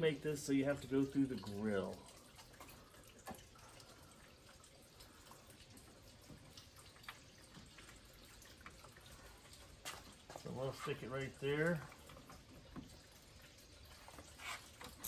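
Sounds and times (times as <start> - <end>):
liquid dripping and trickling: 0.0 - 15.0.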